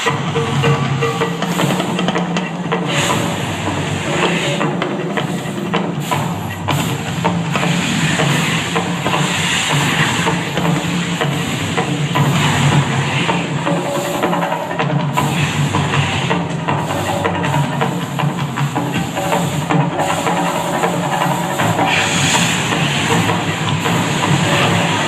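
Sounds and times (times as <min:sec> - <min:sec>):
drum-heavy show music: 0:00.0 - 0:25.0
hiss of fountain show: 0:00.0 - 0:25.0.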